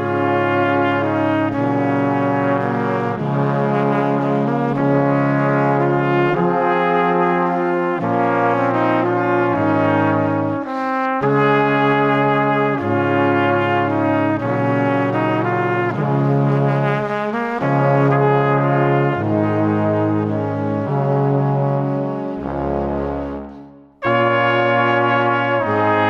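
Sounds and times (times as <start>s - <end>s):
brass playing held chords: 0.0s - 26.0s.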